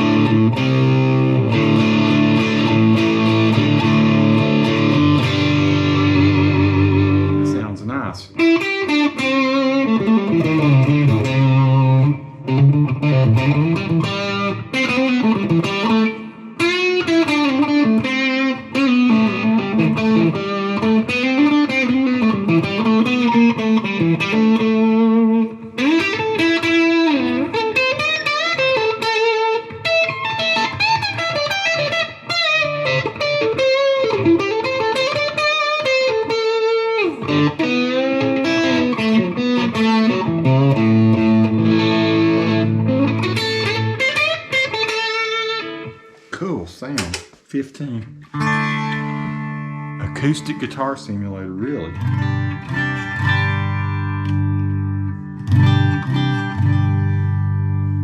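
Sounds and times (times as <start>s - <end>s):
electric guitar playing: 0.0s - 46.3s, 48.0s - 58.0s.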